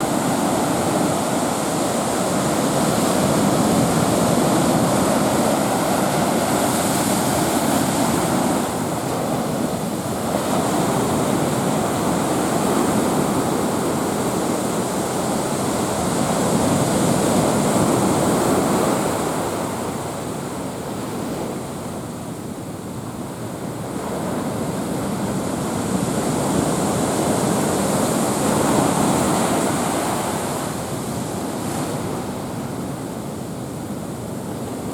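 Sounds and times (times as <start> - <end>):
waves breaking: 0.0 - 34.9.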